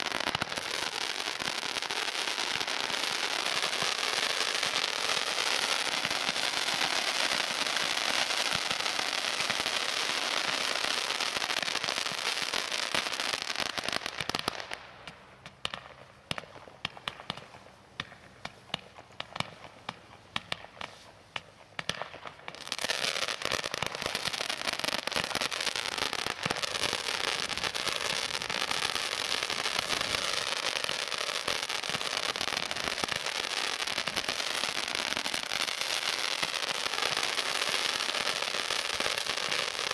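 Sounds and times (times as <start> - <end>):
firework crackling and popping shots: 0.0 - 39.9.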